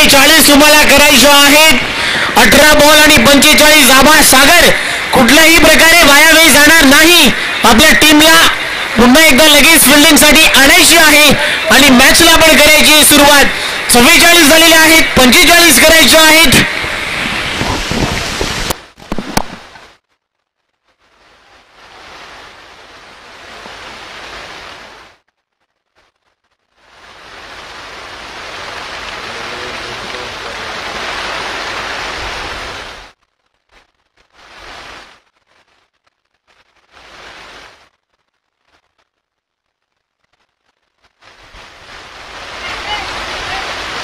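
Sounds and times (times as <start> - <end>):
rain hissing: 0.0 - 44.0.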